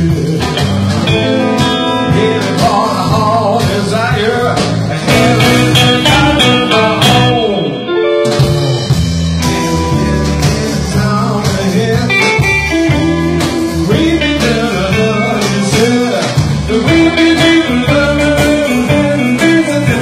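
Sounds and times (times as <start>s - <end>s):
bass guitar: 0.0s - 20.0s
drums: 0.0s - 20.0s
electric guitar lead: 0.0s - 20.0s.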